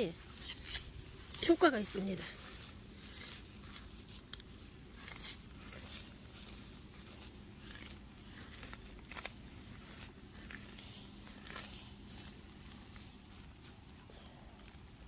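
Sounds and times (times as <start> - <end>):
faint low hum: 0.0 - 15.0
rustling through grass and plants: 0.0 - 15.0.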